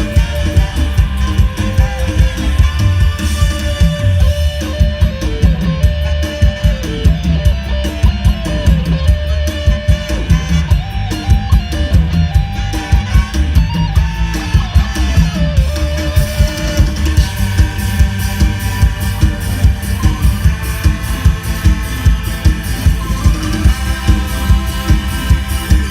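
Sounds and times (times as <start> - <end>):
drum kit: 0.0 - 25.9
heavy bass: 0.0 - 25.9
live band music: 0.0 - 25.9.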